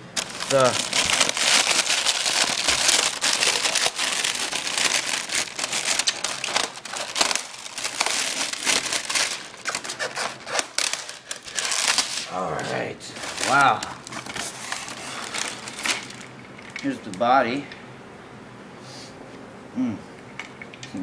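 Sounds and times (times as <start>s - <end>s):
packaging crinkling and crackling: 0.0s - 17.3s.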